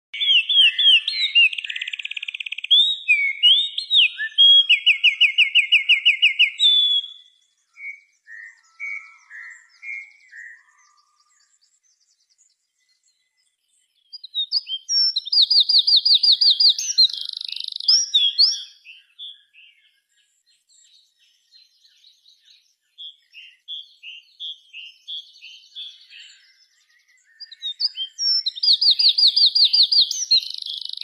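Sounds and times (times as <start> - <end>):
songbird whistles and trills: 0.2 - 31.0.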